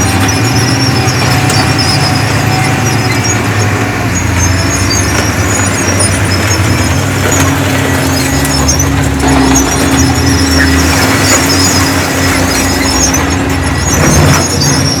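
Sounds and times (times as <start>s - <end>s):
diesel machinery running: 0.0s - 15.0s
high-pitched squeaks: 0.0s - 15.0s
steady engine tone: 0.0s - 15.0s.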